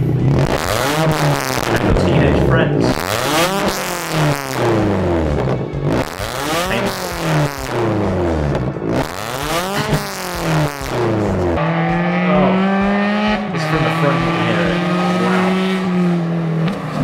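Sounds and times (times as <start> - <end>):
car driving at steady pitch: 0.0 - 17.0
car engine revving: 0.0 - 17.0.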